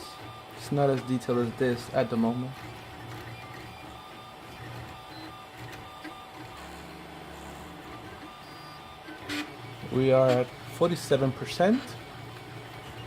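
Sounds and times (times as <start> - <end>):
stepper motors whirring: 0.0 - 13.0.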